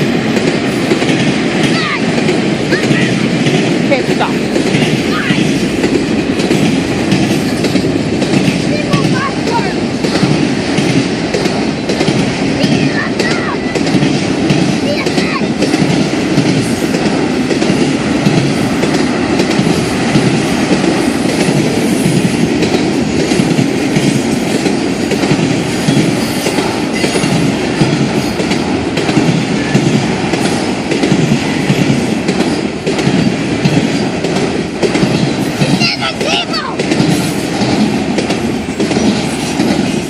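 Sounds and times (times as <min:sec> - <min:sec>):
clickety-clack over rail joints: 0:00.0 - 0:40.0
train wheels rumbling on rails: 0:00.0 - 0:40.0.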